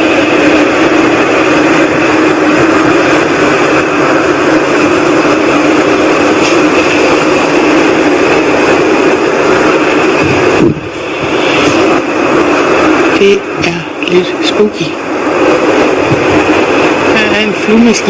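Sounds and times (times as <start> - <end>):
whooshing rumble in the sky: 0.0 - 18.0.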